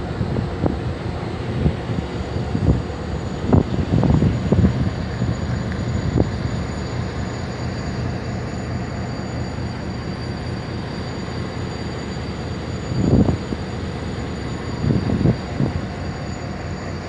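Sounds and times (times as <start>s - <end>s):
locomotive idling: 0.0s - 17.0s.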